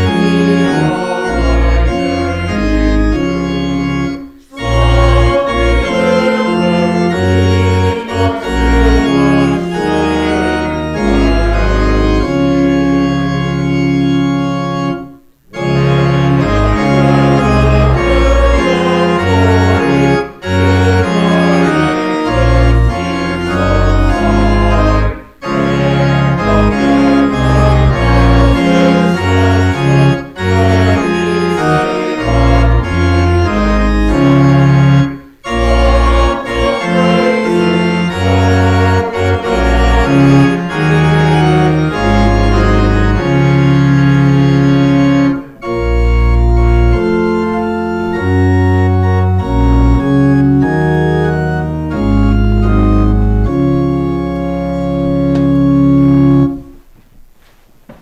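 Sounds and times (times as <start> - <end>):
church organ playing hymn chords: 0.0 - 57.0.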